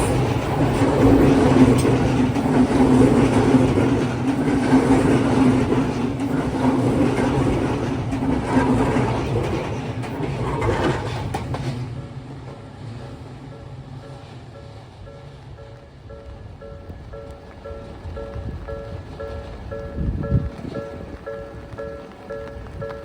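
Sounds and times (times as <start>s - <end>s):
electric train passing: 0.0s - 23.0s
wheel and track rumble: 0.0s - 23.0s.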